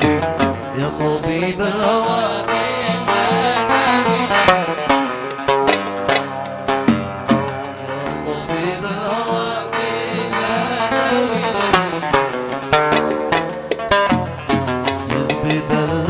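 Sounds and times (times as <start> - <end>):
percussion beat: 0.0 - 16.0.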